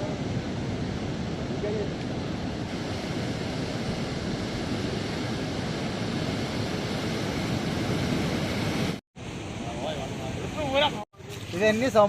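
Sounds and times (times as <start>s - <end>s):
rough sea surf rushing: 0.0s - 11.8s.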